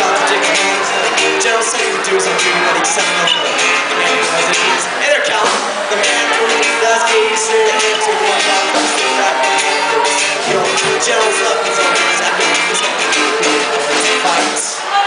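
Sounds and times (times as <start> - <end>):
live instrumental music: 0.0 - 15.0.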